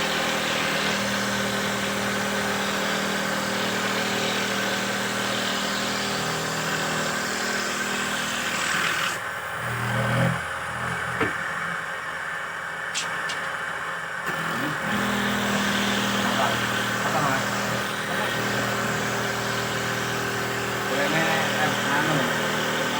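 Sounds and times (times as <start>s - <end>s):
wooden dowel machine motor humming: 0.0s - 22.9s.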